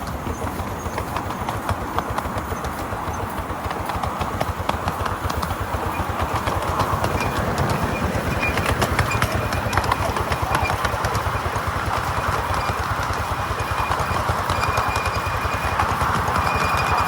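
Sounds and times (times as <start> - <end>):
miniature train clattering: 0.0 - 17.0.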